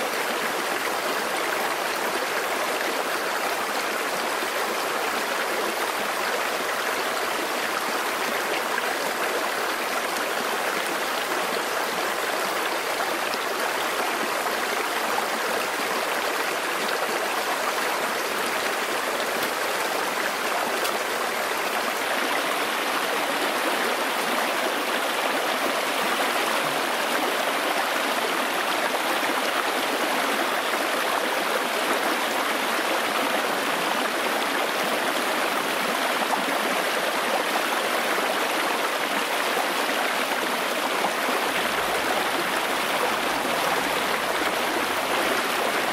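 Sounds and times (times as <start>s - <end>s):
stream rushing over stones: 0.0s - 45.9s.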